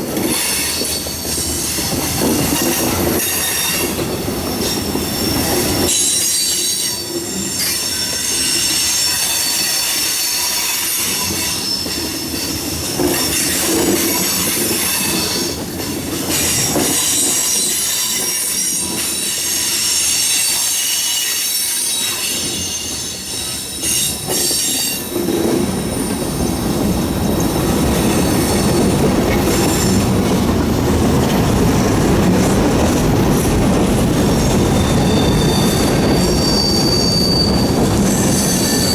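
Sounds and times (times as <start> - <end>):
freight train rumble: 0.0 - 38.9
train wheels squealing on rail: 0.0 - 38.9
wheels clacking on rail joints: 0.0 - 38.9.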